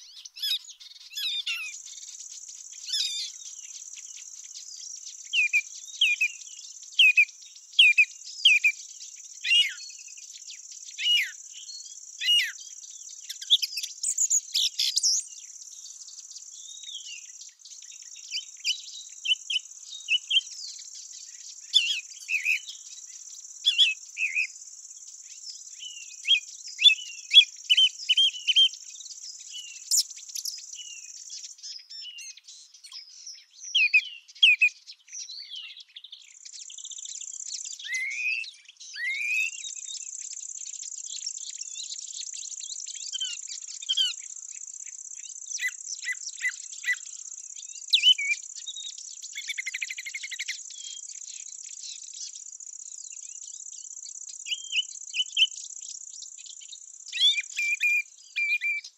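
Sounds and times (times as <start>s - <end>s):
insects buzzing trill: 0.0s - 33.6s, 35.8s - 58.9s
small birds chirping: 0.0s - 58.9s.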